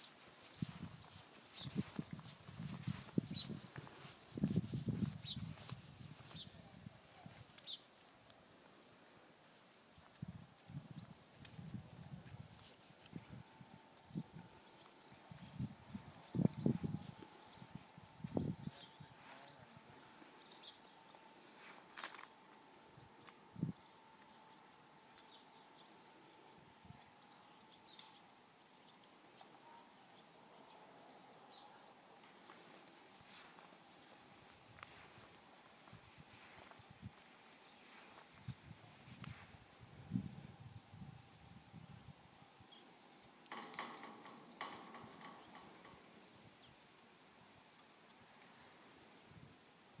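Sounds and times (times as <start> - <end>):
faint steady hiss: 0.0 - 50.0.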